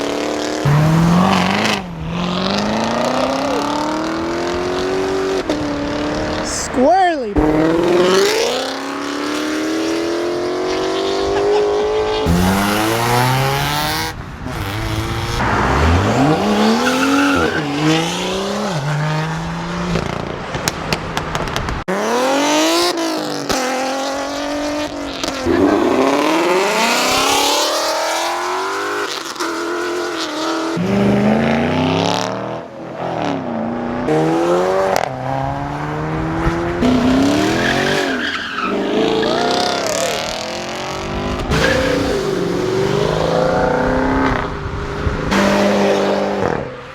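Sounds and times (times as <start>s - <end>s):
car engines revving and accelerating: 0.0s - 46.9s.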